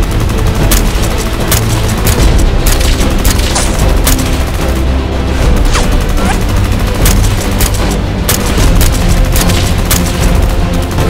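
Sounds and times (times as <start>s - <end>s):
action music: 0.0s - 11.0s
rapid gunfire: 0.0s - 11.0s.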